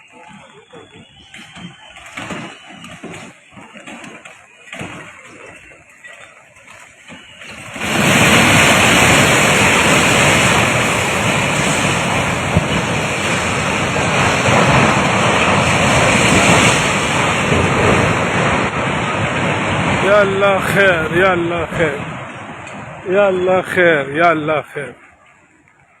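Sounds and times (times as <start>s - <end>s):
rushing floodwater: 0.0s - 26.0s.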